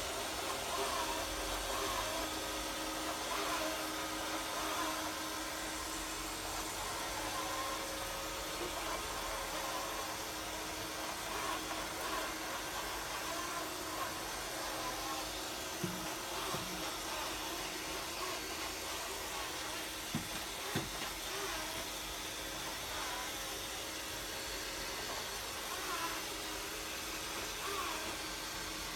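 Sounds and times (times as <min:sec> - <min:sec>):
robot vacuum whirring: 0:00.1 - 0:28.9.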